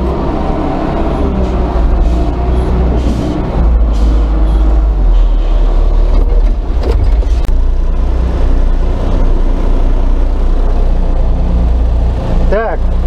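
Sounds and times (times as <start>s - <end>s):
loader diesel engine drone: 0.0s - 13.0s.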